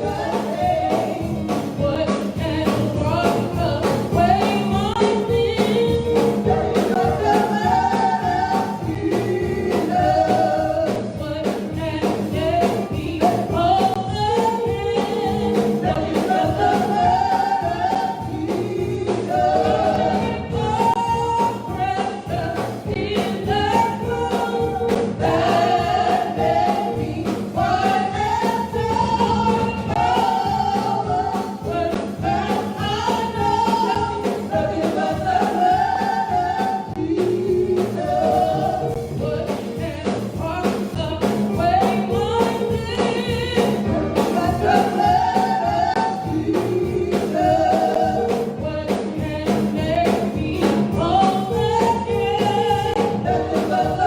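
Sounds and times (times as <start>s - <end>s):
gospel singing voices: 0.0s - 54.0s
held keyboard chords: 0.0s - 54.0s
instrumental accompaniment with beat: 0.0s - 54.0s.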